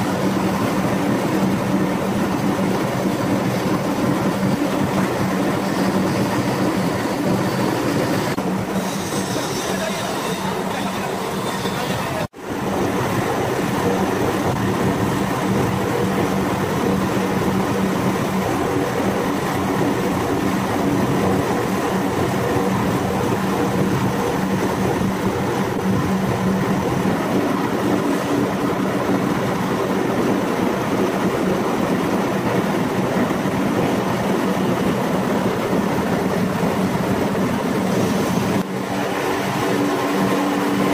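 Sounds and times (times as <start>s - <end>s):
machine noise with low hum: 0.0s - 40.9s.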